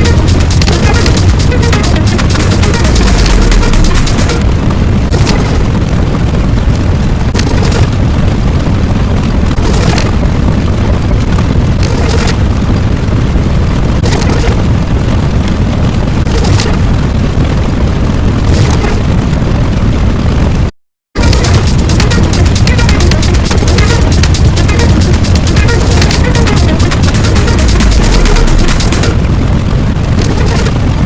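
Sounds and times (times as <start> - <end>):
hissing crackling surge: 0.0 - 20.6, 21.2 - 31.0
loud explosion rumbling: 0.0 - 31.0.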